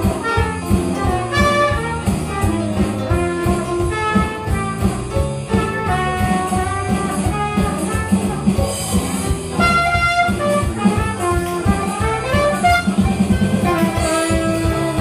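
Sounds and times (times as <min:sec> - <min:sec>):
clarinet: 0:00.0 - 0:15.0
electric bass: 0:00.0 - 0:15.0
electronic drums beat: 0:00.0 - 0:15.0
keyboard: 0:00.0 - 0:15.0
trumpet: 0:00.0 - 0:15.0.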